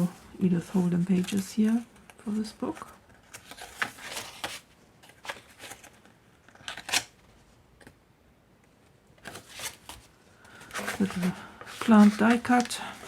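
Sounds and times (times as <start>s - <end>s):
paper pages rustling: 0.0s - 7.5s, 9.2s - 13.0s.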